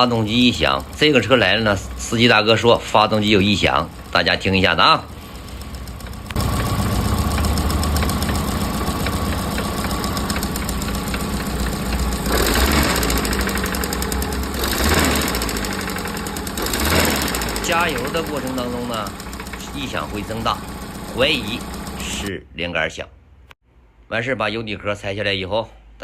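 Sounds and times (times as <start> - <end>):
car engine idling with knock: 0.0 - 22.3
car engine revving: 0.0 - 22.3.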